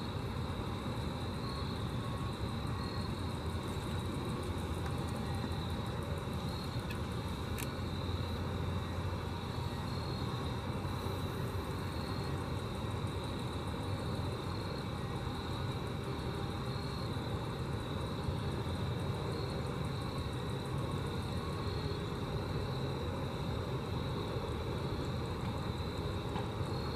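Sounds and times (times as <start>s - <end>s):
grasshoppers ticking: 0.4s - 26.9s.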